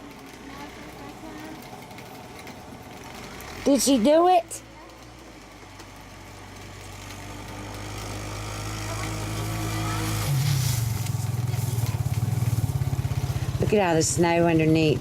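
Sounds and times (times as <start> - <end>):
quad bike engine pulsing: 0.0 - 15.0.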